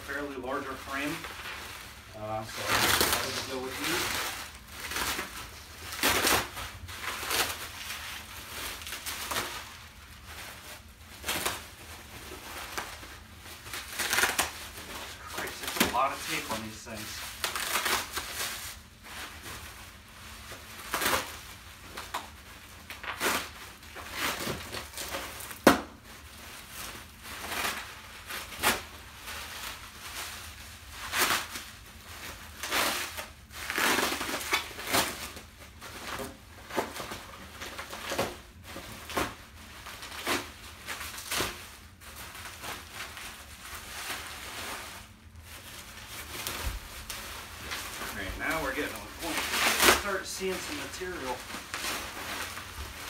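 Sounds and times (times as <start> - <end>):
plastic wrap crinkling: 0.0 - 53.0.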